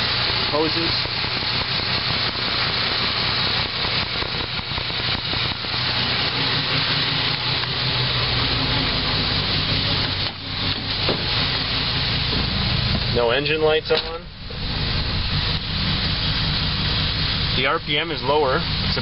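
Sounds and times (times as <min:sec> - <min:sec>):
engine idling smoothly: 0:00.0 - 0:19.0.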